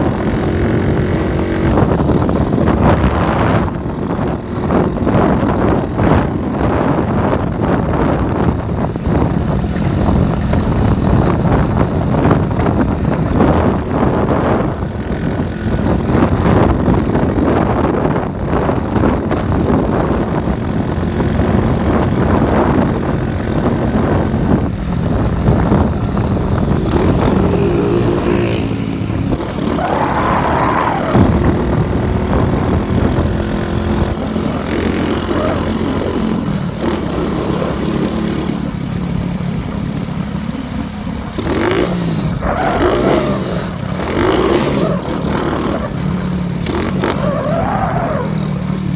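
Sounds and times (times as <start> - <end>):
motorcycle engine revving: 0.0 - 48.9
wind on microphone: 0.0 - 48.9.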